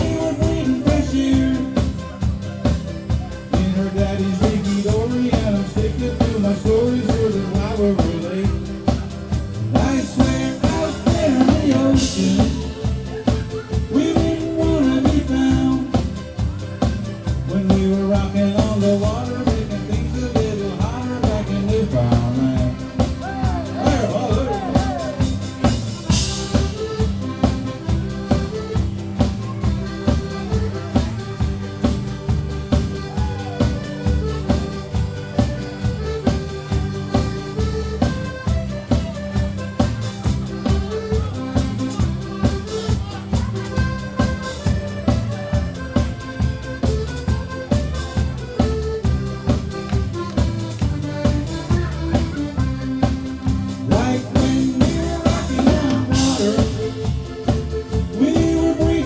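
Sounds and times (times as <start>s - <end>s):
bass: 0.0s - 59.0s
drum kit beat: 0.0s - 59.0s
fiddle melody: 0.0s - 59.0s
guitar: 0.0s - 59.0s.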